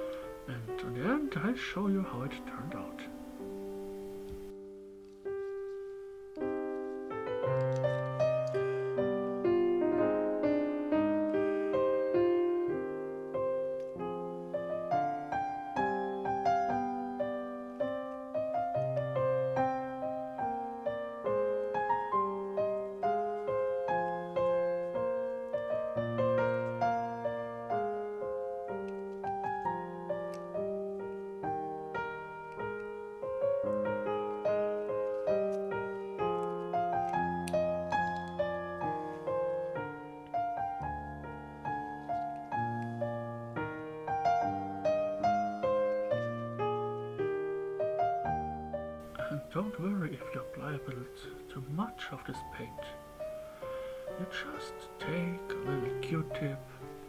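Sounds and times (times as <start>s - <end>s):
solo piano melody: 0.0s - 57.0s.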